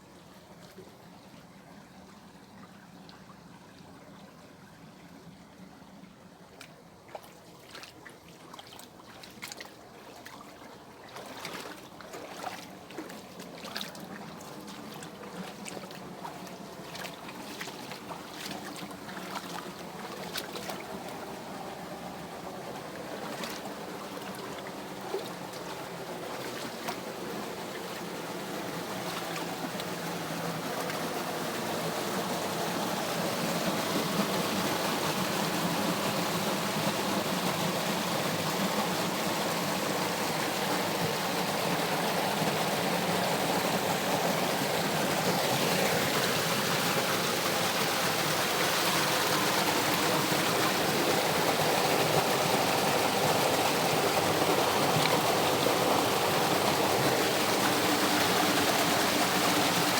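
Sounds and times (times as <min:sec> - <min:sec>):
water splashing and trickling: 0:02.0 - 0:59.9
water rushing down cascade: 0:08.9 - 0:59.9.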